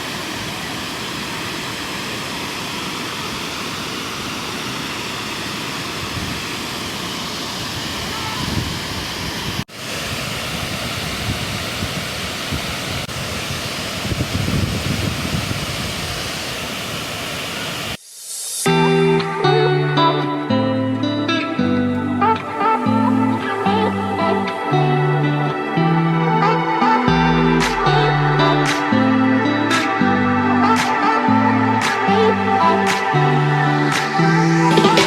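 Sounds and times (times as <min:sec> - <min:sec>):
waterfall rushing: 0:00.0 - 0:18.0, 0:22.1 - 0:35.0.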